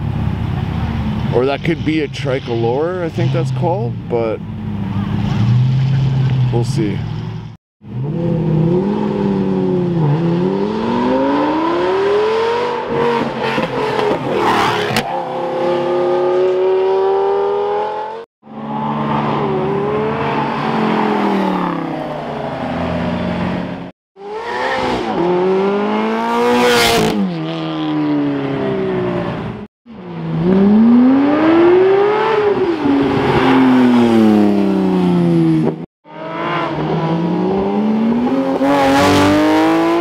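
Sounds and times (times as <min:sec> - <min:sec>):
car engines accelerating hard: 0:00.5 - 0:40.0.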